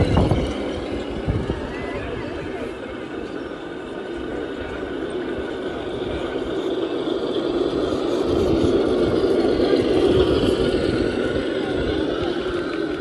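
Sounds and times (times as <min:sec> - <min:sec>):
trucks driving in convoy: 0:00.0 - 0:13.0.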